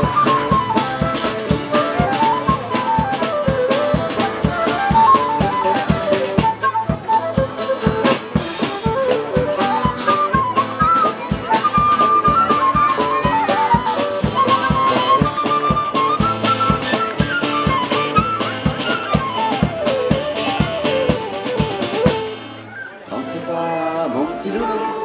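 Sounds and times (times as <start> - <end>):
drum beat: 0.0 - 22.6
sousaphone: 0.0 - 23.2
flutes playing melody: 0.0 - 25.0
strummed acoustic guitars: 0.0 - 25.0.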